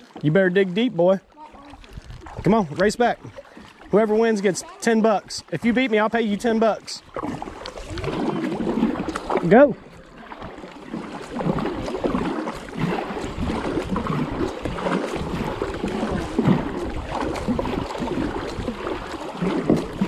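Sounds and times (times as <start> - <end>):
paddle splashing in water: 0.0 - 20.0
water rushing along hull: 0.0 - 20.0.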